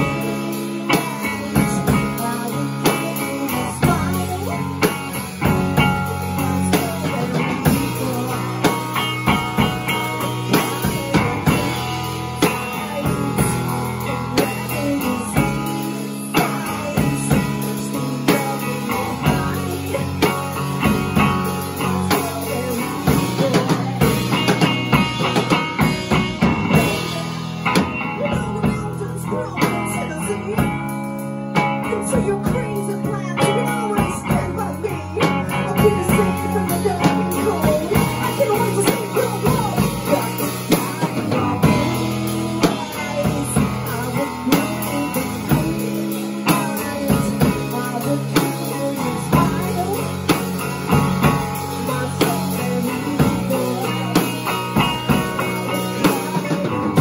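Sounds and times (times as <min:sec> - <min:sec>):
drum kit: 0:00.0 - 0:57.0
electric guitar: 0:00.0 - 0:57.0
woman singing: 0:00.0 - 0:57.0.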